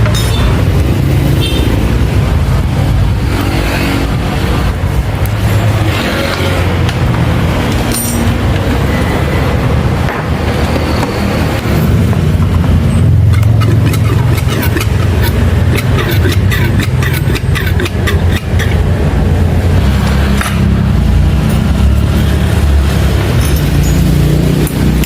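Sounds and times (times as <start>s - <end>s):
engine running: 4.0s - 25.0s.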